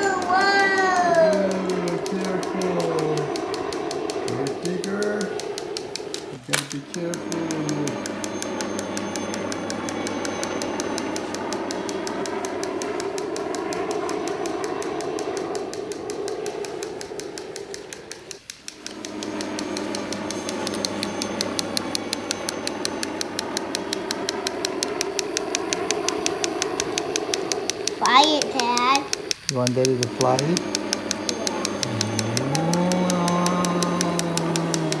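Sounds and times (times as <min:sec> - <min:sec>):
toy helicopter motor whirring: 0:00.0 - 0:35.0.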